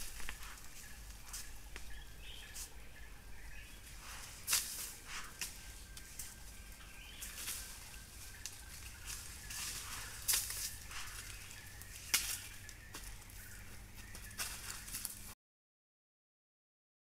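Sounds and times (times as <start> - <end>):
distant bird calls: 0.0 - 15.4
dry leaves crackling: 0.0 - 15.4
low steady hum: 0.0 - 15.4.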